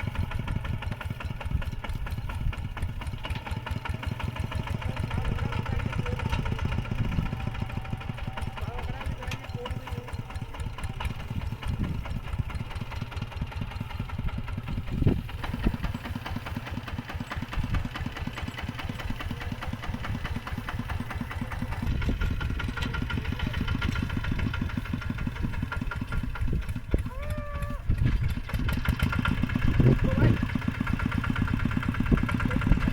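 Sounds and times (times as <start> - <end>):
tractor engine chugging: 0.0 - 32.9.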